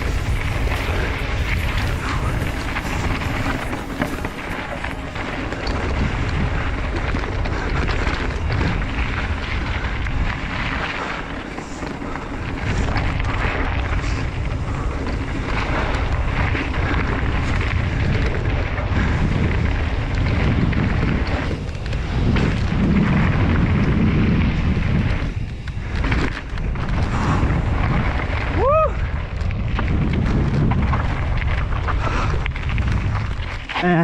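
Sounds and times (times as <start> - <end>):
bike tyres rumbling on dirt trail: 0.0 - 34.0
wind buffeting microphone: 0.0 - 34.0.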